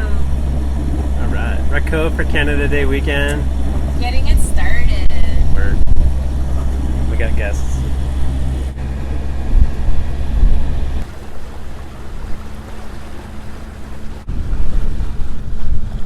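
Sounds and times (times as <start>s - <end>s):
boat engine droning: 0.0s - 16.0s
wind buffeting microphone: 0.0s - 16.0s.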